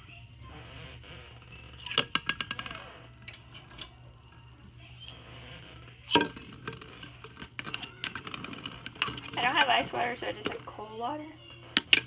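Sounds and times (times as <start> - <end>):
eggs clicking and tapping: 0.5 - 12.0.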